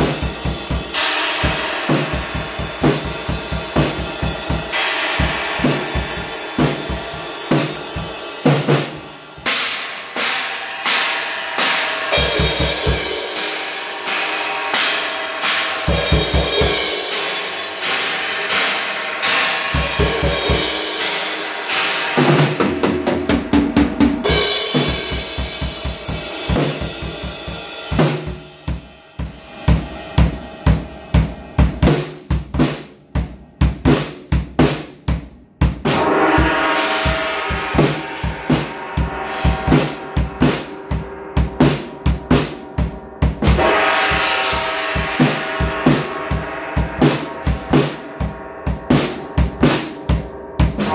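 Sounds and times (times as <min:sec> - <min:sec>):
crashing cymbals: 0:00.0 - 0:22.8, 0:24.2 - 0:32.3, 0:35.8 - 0:50.9
drum kit beat: 0:00.0 - 0:50.9.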